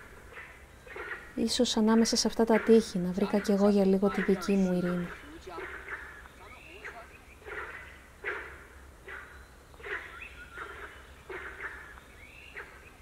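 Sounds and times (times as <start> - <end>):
bird calling: 0.0 - 13.0.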